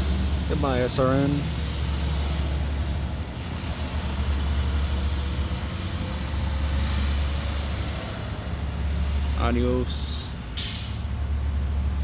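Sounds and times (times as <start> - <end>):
traffic noise: 0.0 - 12.0
truck engines rumbling: 0.0 - 12.0.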